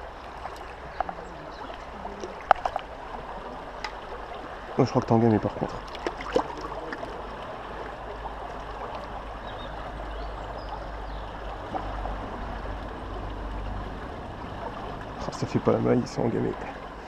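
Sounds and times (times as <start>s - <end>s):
river water running over stones: 0.0s - 17.0s.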